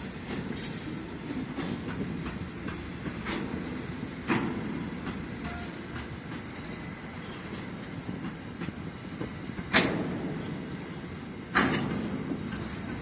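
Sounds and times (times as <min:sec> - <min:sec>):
train wheels rumbling on rail: 0:00.0 - 0:13.0
wheel clacks: 0:00.0 - 0:13.0.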